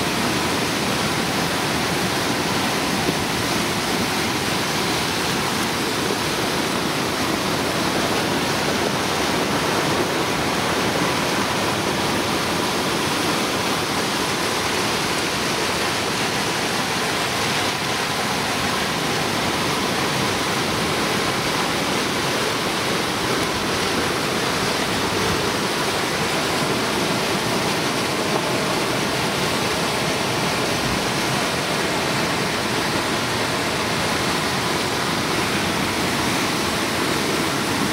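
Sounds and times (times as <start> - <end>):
floodwater rushing: 0.0 - 37.9.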